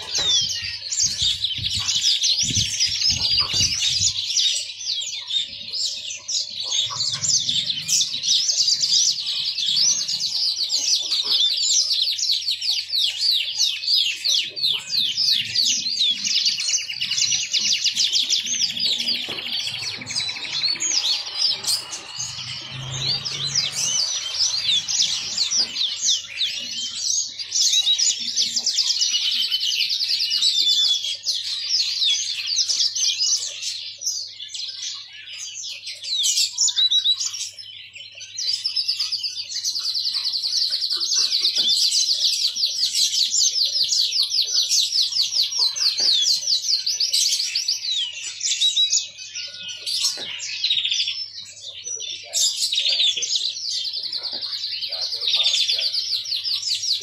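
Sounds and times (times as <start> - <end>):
canary twittering song: 0.0 - 57.0.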